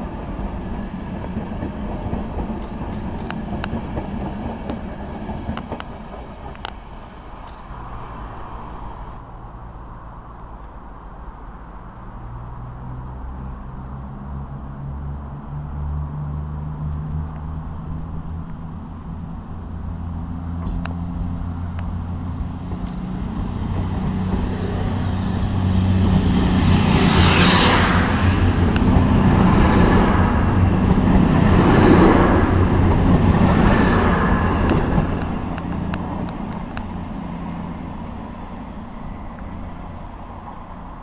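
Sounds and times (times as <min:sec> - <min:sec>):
diesel train passing: 0:00.0 - 0:41.0.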